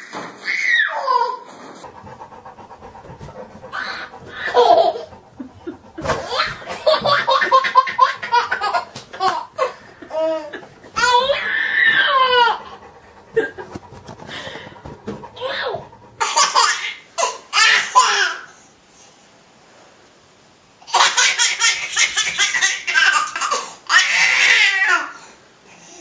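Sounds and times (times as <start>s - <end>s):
baby laughing: 0.5s - 18.5s, 20.8s - 25.2s.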